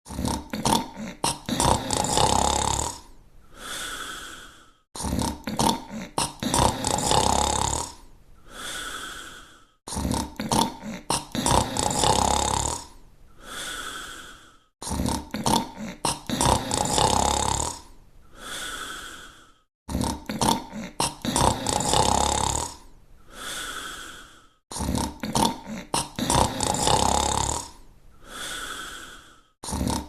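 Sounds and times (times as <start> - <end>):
cartoon dog snoring: 0.0 - 30.0.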